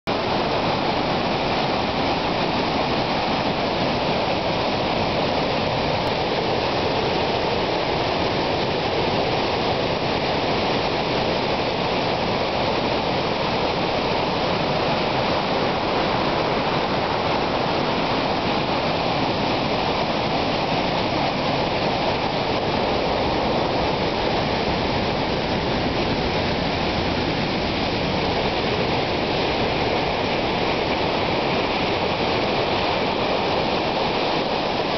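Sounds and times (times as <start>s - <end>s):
rushing floodwater: 0.1s - 34.9s.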